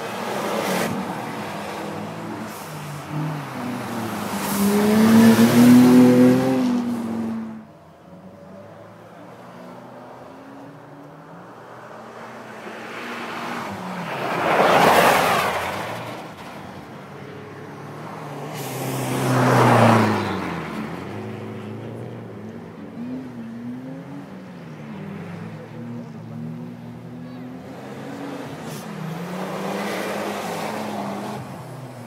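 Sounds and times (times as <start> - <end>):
race car engines revving: 0.0 - 32.0
race cars passing: 0.0 - 32.0.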